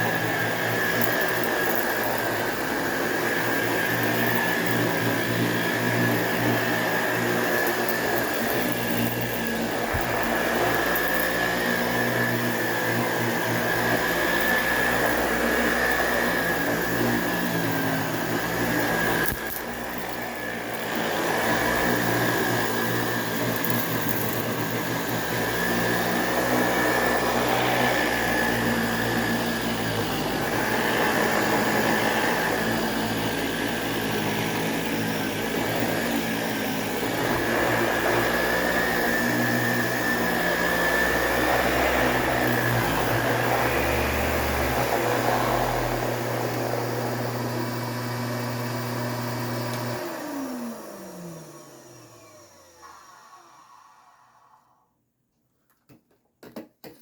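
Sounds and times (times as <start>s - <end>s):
vacuum cleaner on carpet: 0.0s - 54.9s.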